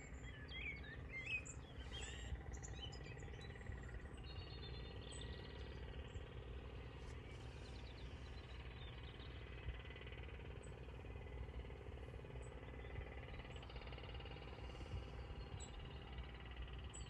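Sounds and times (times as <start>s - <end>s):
low steady rumble: 0.0s - 17.0s
small birds chirping: 0.0s - 17.0s.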